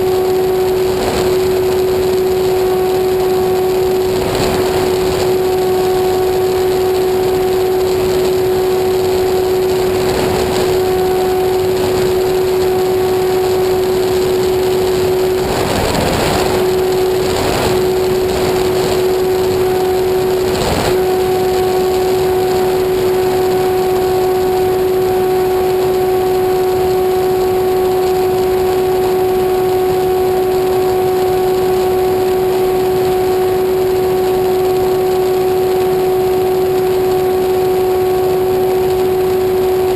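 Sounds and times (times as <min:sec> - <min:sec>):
motor humming drone: 0:00.0 - 0:39.9.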